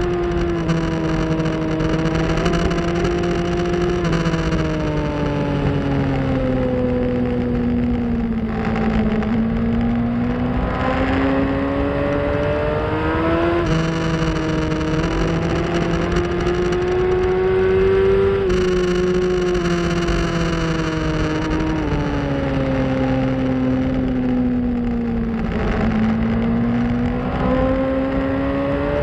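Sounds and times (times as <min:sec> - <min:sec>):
motorcycle engine revving: 0:00.0 - 0:29.0
rushing wind: 0:00.0 - 0:29.0.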